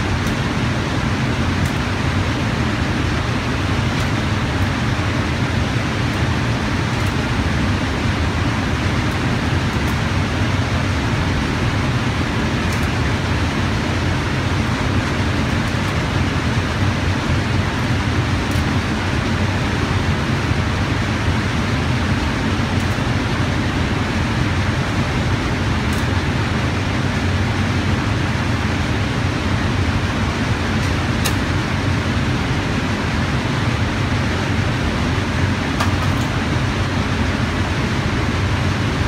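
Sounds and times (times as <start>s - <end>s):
ventilation air rushing: 0.0s - 39.0s.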